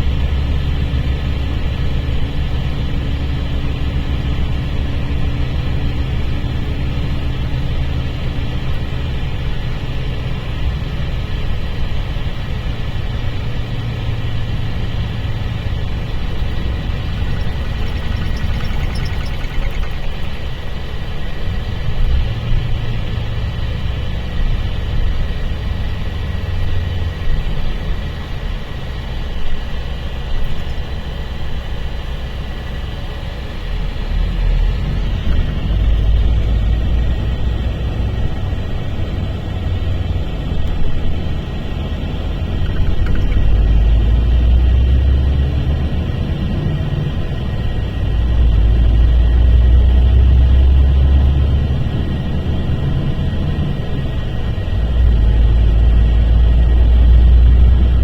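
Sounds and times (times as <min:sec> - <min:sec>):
diesel engine droning: 0:00.0 - 0:29.3, 0:31.2 - 0:58.0.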